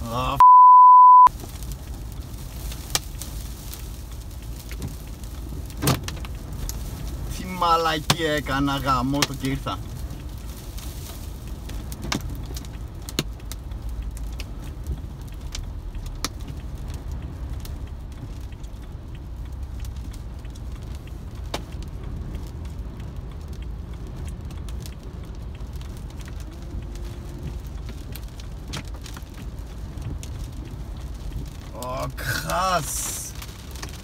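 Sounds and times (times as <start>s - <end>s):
rain and debris ticking on car: 0.0s - 0.4s, 1.3s - 34.0s
wind buffeting a car: 1.3s - 31.8s.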